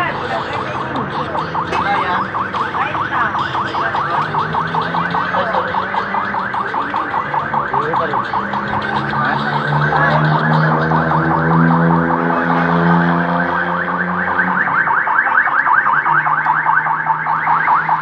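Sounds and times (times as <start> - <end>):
electronic warbling alarm: 0.0 - 18.0.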